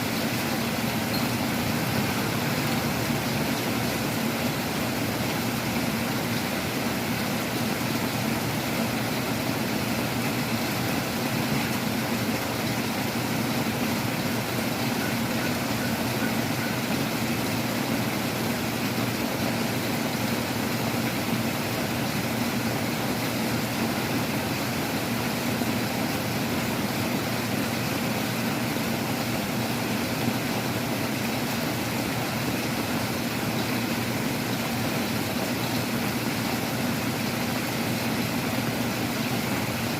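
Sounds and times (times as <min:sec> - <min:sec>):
heavy rain and strong wind: 0:00.0 - 0:39.9.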